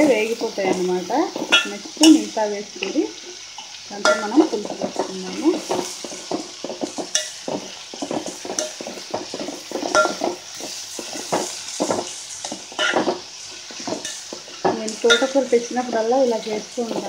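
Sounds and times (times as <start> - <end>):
vegetables sizzling in oil: 0.0 - 17.0
metal ladle scraping pot: 0.6 - 2.3, 3.2 - 15.4.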